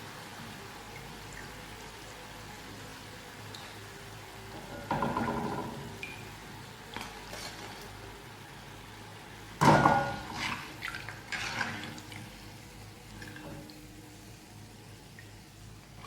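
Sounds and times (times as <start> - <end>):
snacks frying in hot oil: 0.0 - 16.0.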